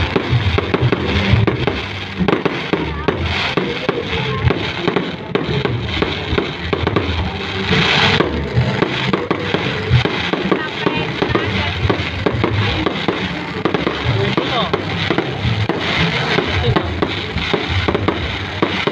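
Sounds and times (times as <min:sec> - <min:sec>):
fireworks bangs and cracks: 0:00.0 - 0:18.9.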